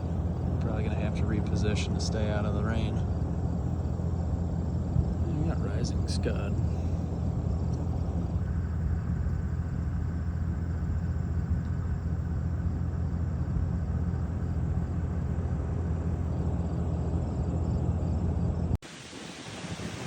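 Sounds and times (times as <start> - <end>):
car engine rumble: 0.0 - 18.8
road noise inside car: 0.0 - 18.8.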